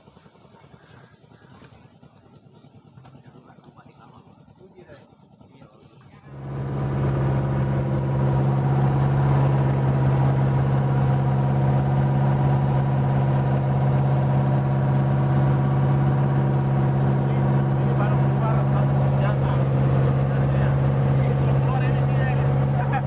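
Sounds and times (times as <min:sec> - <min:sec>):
boat engine droning: 0:04.3 - 0:23.0.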